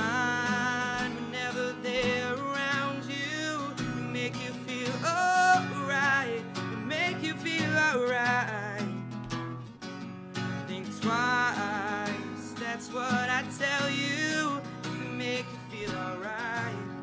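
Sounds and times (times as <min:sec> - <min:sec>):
man singing: 0:00.0 - 0:09.1, 0:10.6 - 0:17.0
strummed acoustic guitar: 0:00.0 - 0:17.0.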